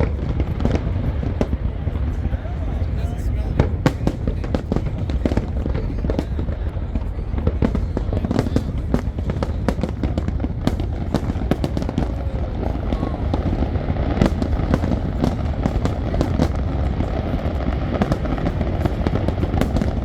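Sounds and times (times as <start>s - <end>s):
firework cracks: 0.0s - 20.0s
low rumble of fireworks: 0.0s - 20.0s
loud firework bang: 3.5s - 20.0s.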